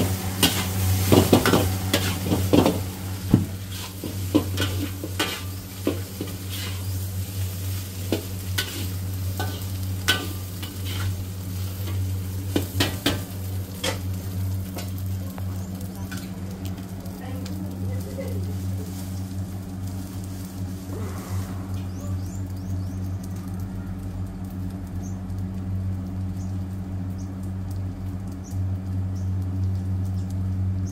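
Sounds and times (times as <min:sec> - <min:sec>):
rice sizzling in a wok: 0:00.0 - 0:30.9
steady low hum: 0:00.0 - 0:30.9.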